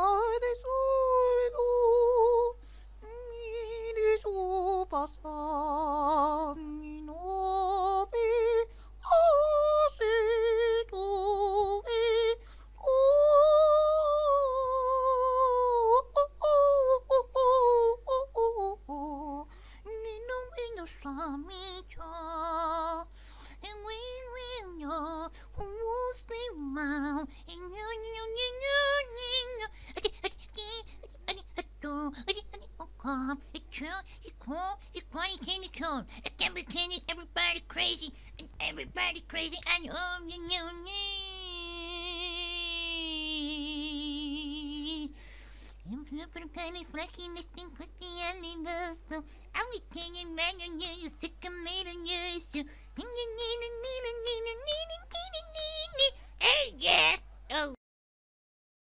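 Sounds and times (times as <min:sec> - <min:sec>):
high solo singing voice: 0:00.0 - 0:57.8.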